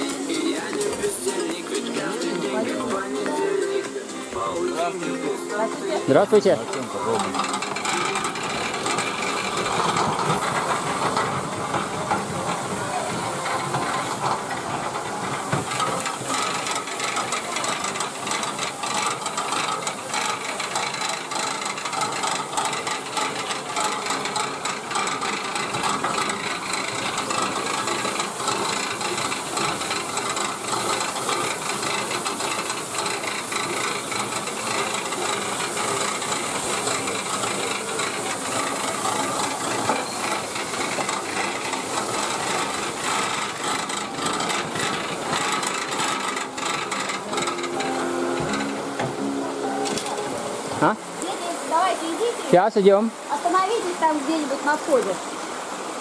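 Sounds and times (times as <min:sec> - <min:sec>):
constant rattling: 0:00.0 - 0:55.3.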